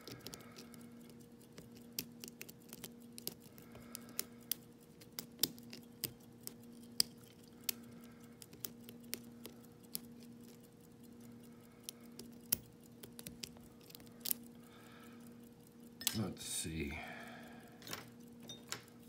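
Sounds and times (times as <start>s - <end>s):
lock pick clicking pins: 0.0s - 14.5s, 17.8s - 19.0s.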